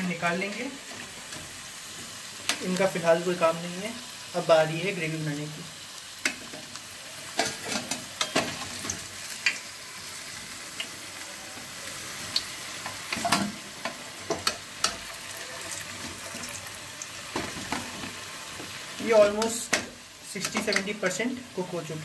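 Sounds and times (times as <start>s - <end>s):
potatoes sizzling in hot oil: 0.0s - 22.0s.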